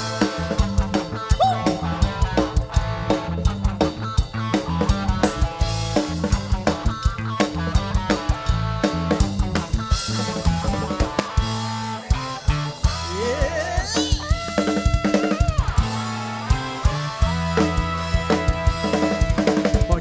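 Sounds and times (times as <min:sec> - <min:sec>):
music with drum beat and bass: 0:00.0 - 0:20.0.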